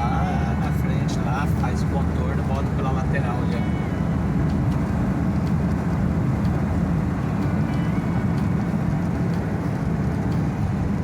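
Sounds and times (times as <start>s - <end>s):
vehicle road rumble: 0.0s - 11.0s.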